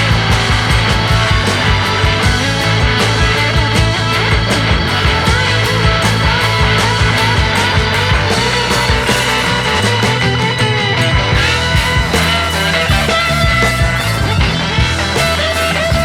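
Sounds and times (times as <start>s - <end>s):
rock music with electric guitar: 0.0s - 16.0s.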